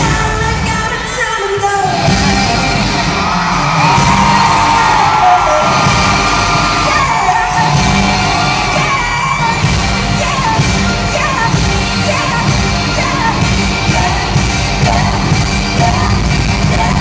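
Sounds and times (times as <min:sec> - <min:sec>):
woman singing: 0:00.0 - 0:03.2, 0:06.6 - 0:17.0
live pop band playing: 0:00.0 - 0:17.0.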